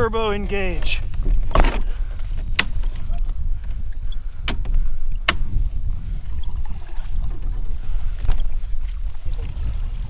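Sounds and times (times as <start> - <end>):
boat motor rumble with water and wind: 0.0 - 10.0.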